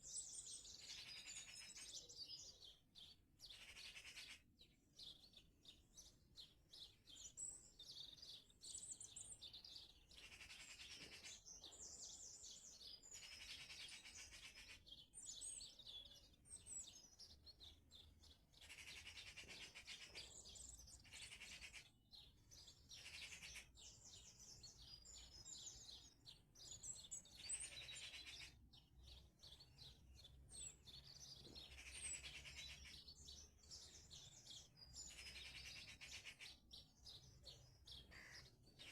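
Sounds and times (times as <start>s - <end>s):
songbirds twittering: 0.0s - 38.9s.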